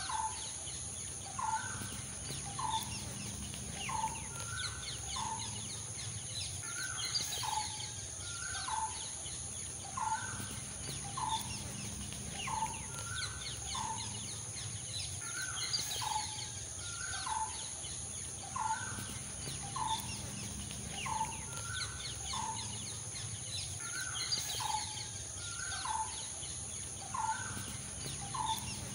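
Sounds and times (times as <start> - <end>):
small birds twittering: 0.0 - 28.9
steady high whine: 0.0 - 28.9.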